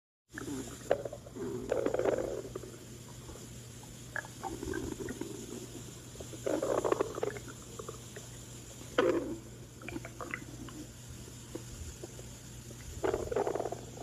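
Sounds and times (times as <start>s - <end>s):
stomach growling: 0.4s - 3.5s, 4.1s - 14.0s.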